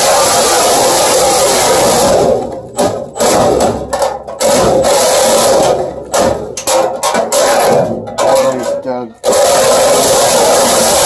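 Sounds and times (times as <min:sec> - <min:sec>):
reciprocating saw cutting sheet metal: 0:00.0 - 0:11.0.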